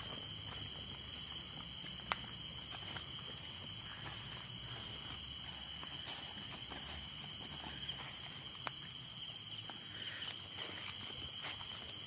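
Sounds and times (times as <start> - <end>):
footsteps on forest path: 0.0 - 12.0
night insects chorus: 0.0 - 12.0.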